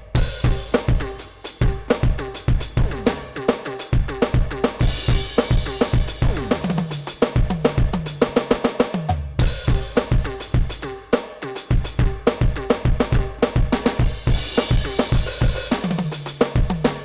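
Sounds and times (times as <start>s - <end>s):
crash cymbal: 0.0s - 17.0s
electronic drum beat: 0.0s - 17.0s.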